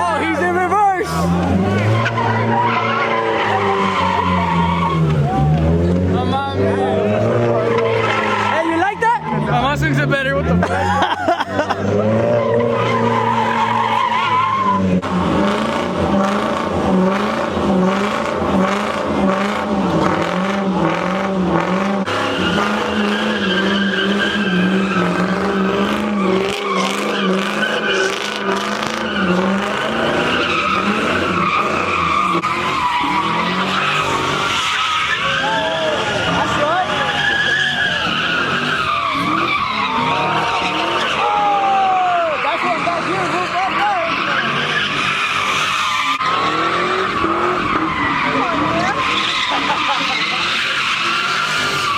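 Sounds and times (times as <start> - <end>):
tyres squealing: 0.0 - 15.0, 22.1 - 51.9
car engine revving high: 0.0 - 51.9.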